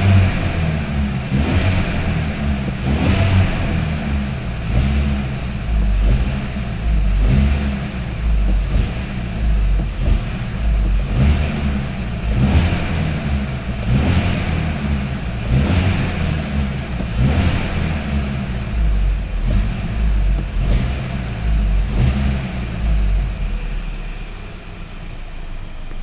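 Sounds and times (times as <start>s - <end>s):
rattling car engine revving: 0.0s - 26.0s.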